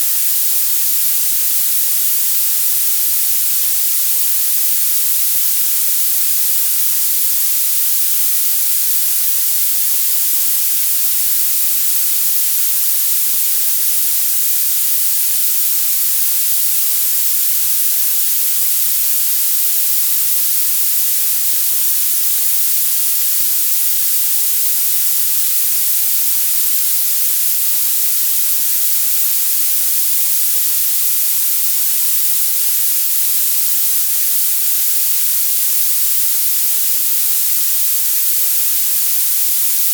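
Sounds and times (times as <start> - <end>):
bright high hiss: 0.0 - 39.9.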